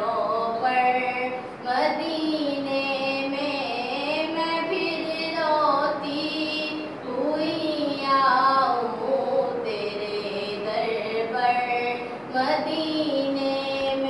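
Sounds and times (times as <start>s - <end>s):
person singing devotional song: 0.0s - 14.0s.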